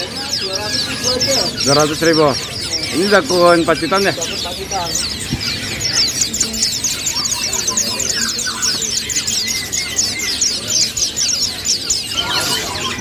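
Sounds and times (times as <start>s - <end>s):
caged songbirds chirping: 0.0s - 13.0s.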